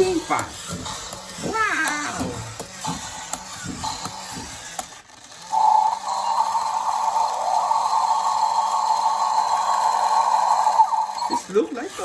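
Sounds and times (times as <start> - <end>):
toy gears ratcheting clicks: 0.0 - 12.0
toy motor whirring: 0.0 - 12.0.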